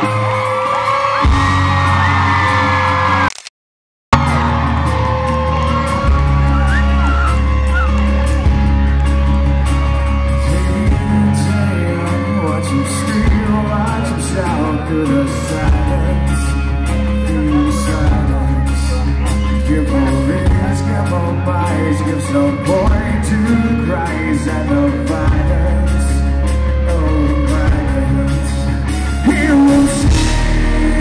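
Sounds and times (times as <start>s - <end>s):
drums: 0.0s - 3.3s, 4.2s - 31.0s
deep bass notes: 4.1s - 31.0s
electric guitars: 4.2s - 31.0s.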